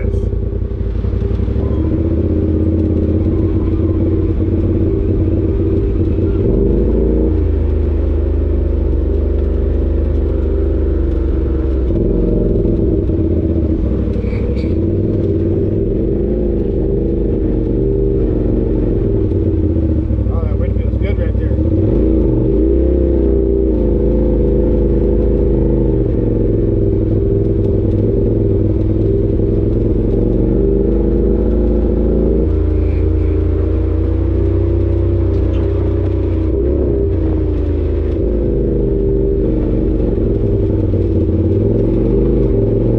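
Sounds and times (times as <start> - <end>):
utility vehicle engine running: 0.0 - 42.9.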